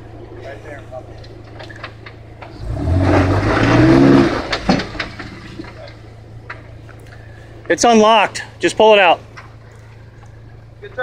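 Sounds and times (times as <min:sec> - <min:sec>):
car engine idling and revving: 0:00.0 - 0:11.0
tires scrabbling on rock: 0:00.0 - 0:11.0.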